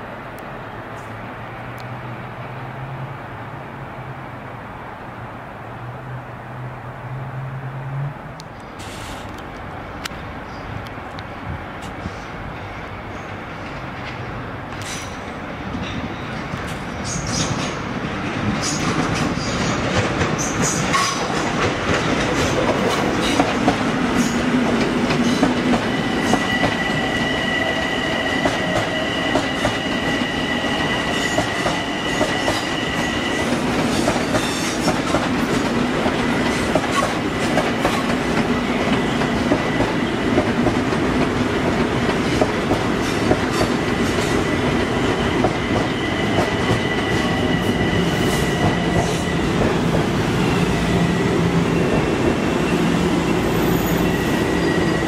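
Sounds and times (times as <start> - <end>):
train wheels rumbling on rails: 8.4 - 55.0.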